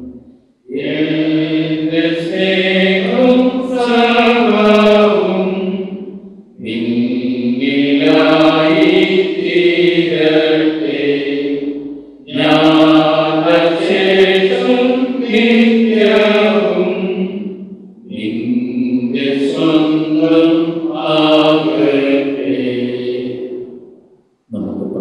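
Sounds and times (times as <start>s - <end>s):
liturgical chanting: 0.0s - 25.0s.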